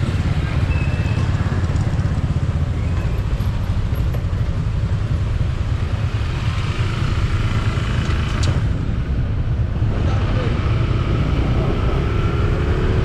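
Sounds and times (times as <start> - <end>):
motorbike engines running: 0.0 - 13.0.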